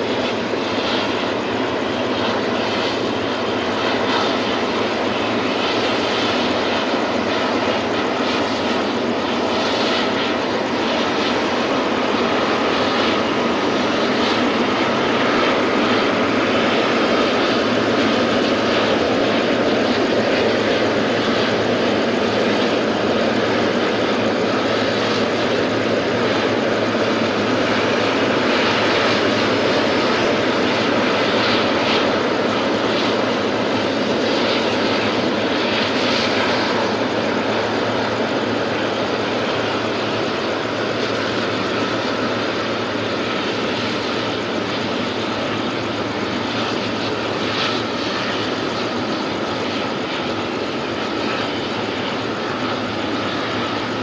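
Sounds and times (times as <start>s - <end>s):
jet engine rush and hum: 0.0s - 54.0s.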